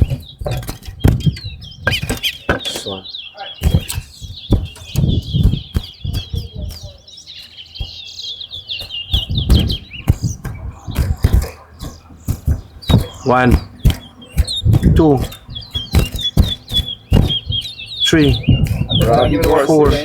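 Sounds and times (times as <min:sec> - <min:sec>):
low rumbling and thuds: 0:00.0 - 0:02.8, 0:03.6 - 0:07.0, 0:08.6 - 0:20.0
bird singing high chirping song: 0:00.0 - 0:20.0.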